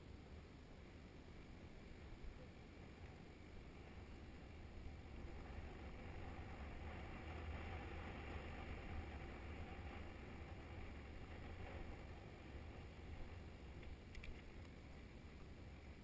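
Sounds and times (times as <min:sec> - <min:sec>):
wind rumble on microphone: 0:00.0 - 0:16.0
bicycle tyres on tarmac: 0:01.0 - 0:16.0.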